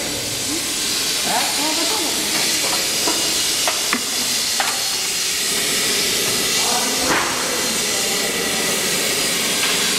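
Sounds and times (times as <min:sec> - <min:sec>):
steady loud hiss: 0:00.0 - 0:09.9.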